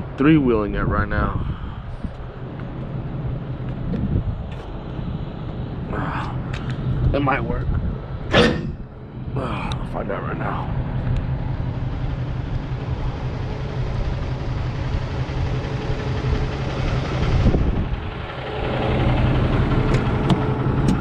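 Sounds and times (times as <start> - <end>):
truck diesel engine running: 1.2 - 21.0.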